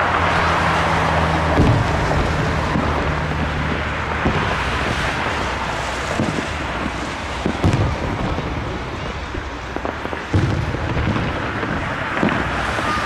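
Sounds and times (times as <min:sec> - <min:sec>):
fireworks booms: 0:00.0 - 0:13.0
low engine-like hum: 0:00.0 - 0:13.0
steady rushing noise: 0:00.0 - 0:13.0.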